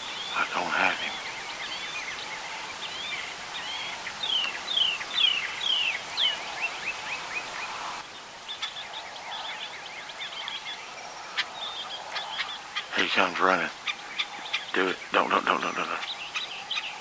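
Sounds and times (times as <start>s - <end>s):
songbirds chirping and singing: 0.0s - 17.0s.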